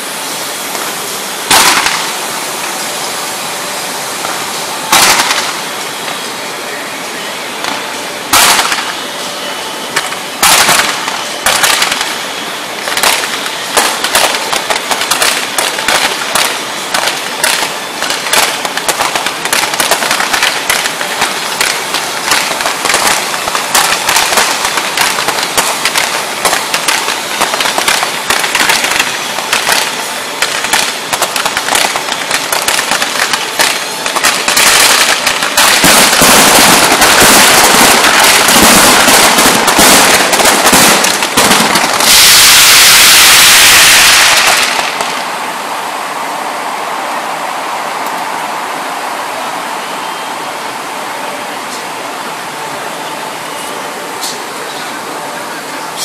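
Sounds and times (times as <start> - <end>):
fireworks crackling bangs: 0.0 - 56.0.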